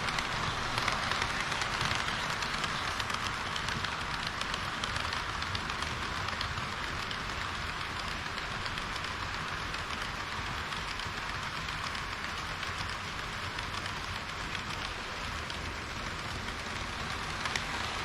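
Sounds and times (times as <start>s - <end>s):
model train running on track: 0.0s - 18.0s
wheels ticking on rails: 0.0s - 18.0s.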